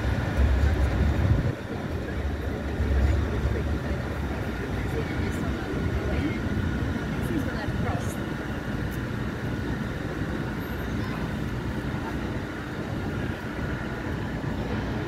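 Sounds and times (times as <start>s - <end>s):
faint hum of tram: 0.0s - 15.0s
low traffic rumble: 0.0s - 15.0s.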